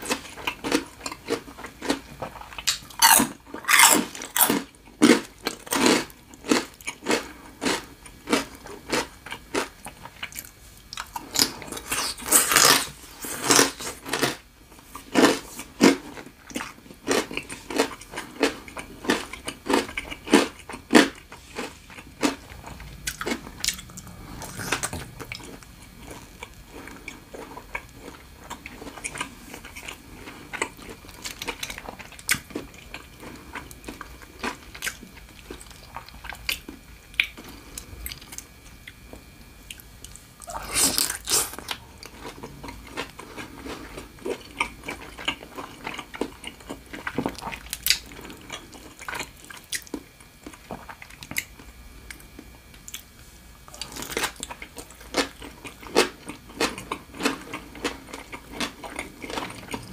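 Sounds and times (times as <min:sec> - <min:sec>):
crunchy bites and chewing: 0:00.0 - 0:53.1, 0:53.7 - 0:59.9.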